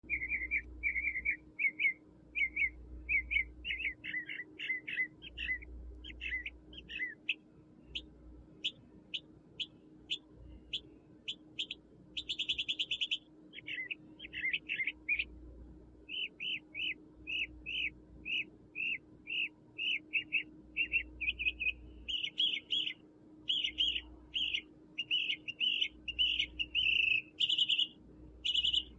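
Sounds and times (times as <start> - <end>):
faint steady hum: 0.0 - 28.9
songbird singing: 0.0 - 28.9.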